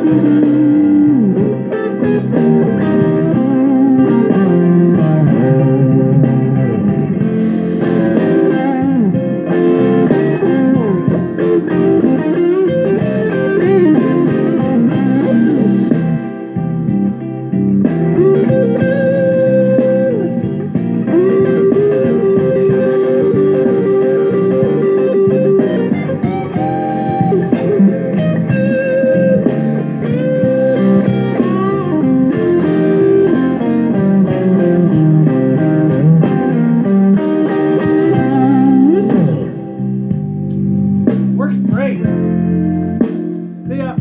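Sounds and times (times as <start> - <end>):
blues electric guitar music: 0.0 - 44.0.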